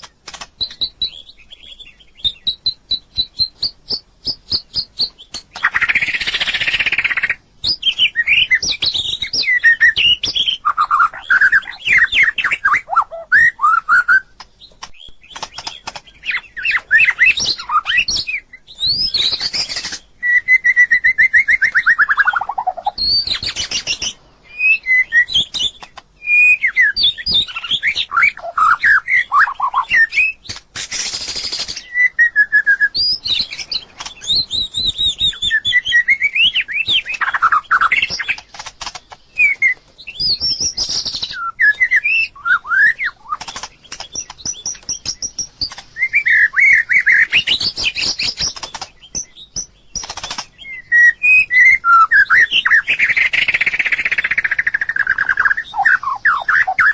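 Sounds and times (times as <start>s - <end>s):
sharp bird clicking: 0.0s - 1.3s, 2.2s - 13.6s, 14.3s - 20.1s, 21.5s - 24.2s, 25.3s - 31.9s, 33.0s - 35.4s, 36.2s - 50.8s, 51.6s - 56.9s
bird whistling varied phrases: 0.6s - 14.3s, 16.3s - 30.4s, 31.4s - 38.4s, 39.3s - 43.4s, 46.0s - 47.6s, 50.6s - 56.9s.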